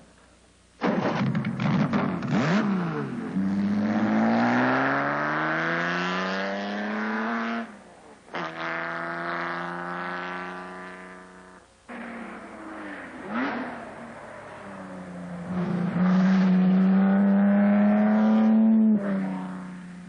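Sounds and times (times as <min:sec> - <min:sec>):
sports car engine revving: 0:01.6 - 0:20.0.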